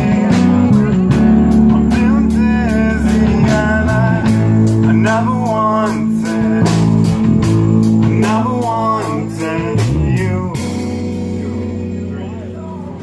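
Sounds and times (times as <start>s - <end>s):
drum beat: 0.0s - 11.5s
rock band playing: 0.0s - 13.0s.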